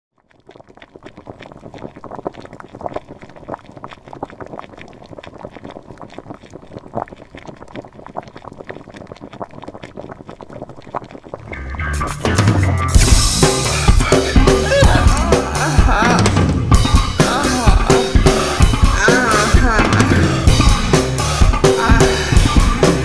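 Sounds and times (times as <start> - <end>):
water boiling and bubbling: 0.1 - 23.0.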